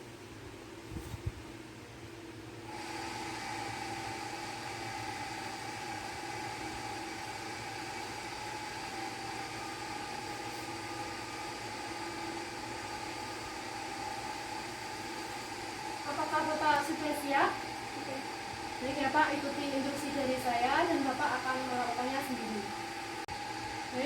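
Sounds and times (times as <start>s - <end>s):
machine hum with whining tones: 0.0s - 24.0s.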